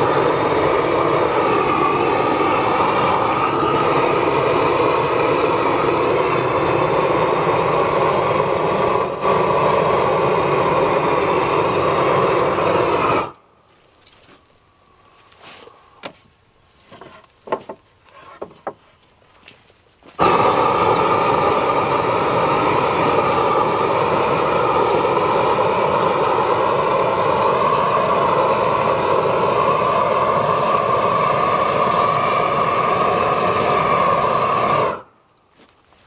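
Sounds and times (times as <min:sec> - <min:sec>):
propane torch burning: 0:00.0 - 0:18.7, 0:19.4 - 0:35.7.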